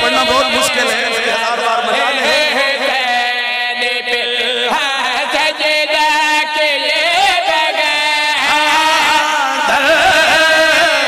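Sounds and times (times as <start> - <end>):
man chanting into a microphone: 0.0 - 11.0.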